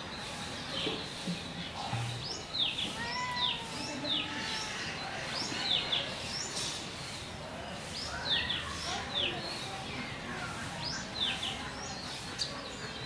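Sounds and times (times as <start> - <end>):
birds chirping: 0.0 - 13.0
outdoor hiss: 0.0 - 13.0.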